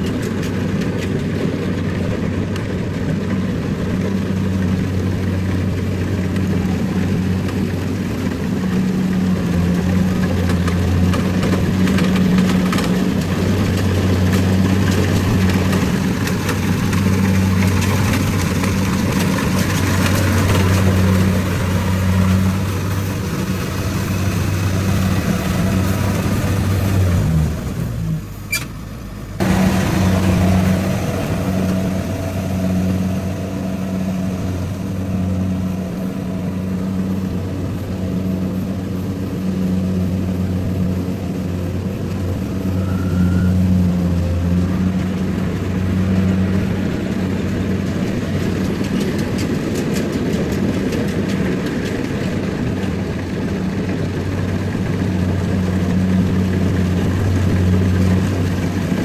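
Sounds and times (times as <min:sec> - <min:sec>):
harvester engine humming: 0:00.0 - 0:59.0
machinery noise: 0:00.0 - 0:59.0.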